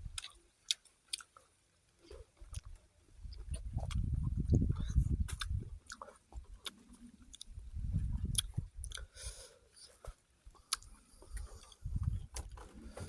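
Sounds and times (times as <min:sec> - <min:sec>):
person chewing fruit: 0:00.0 - 0:13.0.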